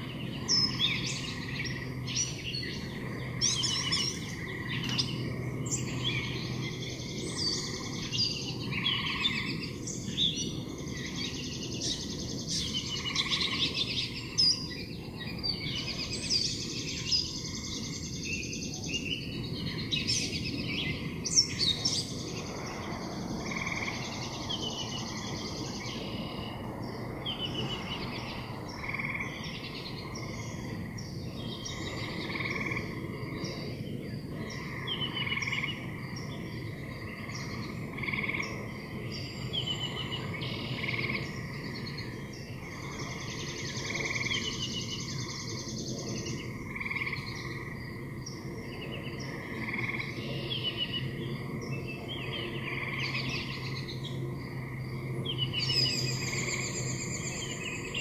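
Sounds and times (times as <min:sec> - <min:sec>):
frogs croaking: 0:00.0 - 0:58.0
songbirds singing: 0:00.0 - 0:58.0.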